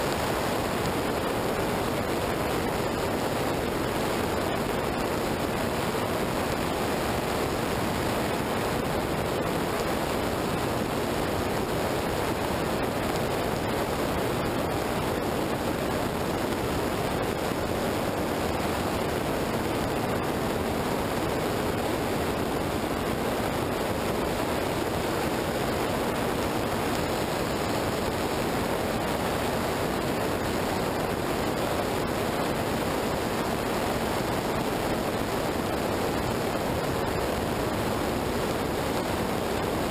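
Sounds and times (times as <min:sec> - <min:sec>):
faint steady hum: 0:00.0 - 0:39.9
wind and tyre noise on wet road: 0:00.0 - 0:39.9.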